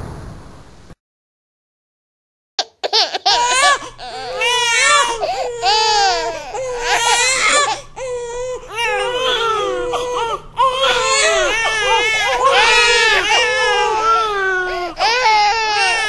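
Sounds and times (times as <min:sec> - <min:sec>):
baby crying: 0:02.6 - 0:16.0.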